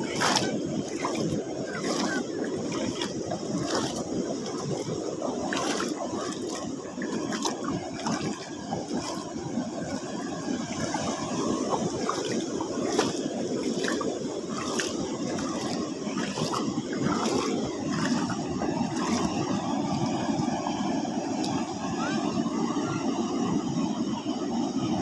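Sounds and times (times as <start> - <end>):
sea water sloshing among rocks: 0.0 - 20.5.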